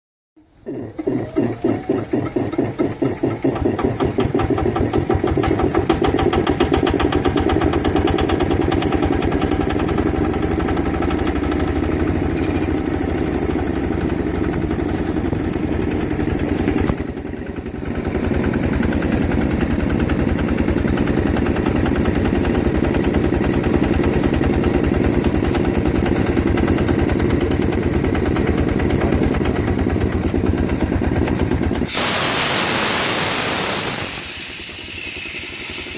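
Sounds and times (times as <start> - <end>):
diesel engine knocking: 0.4 - 31.9.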